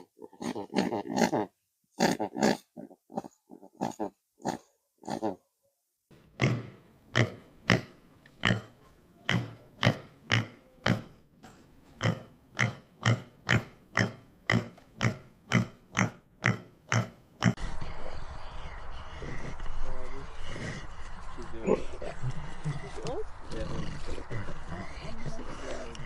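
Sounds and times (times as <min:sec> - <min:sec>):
pig grunting: 0:00.0 - 0:05.4, 0:06.4 - 0:11.2, 0:12.0 - 0:26.0.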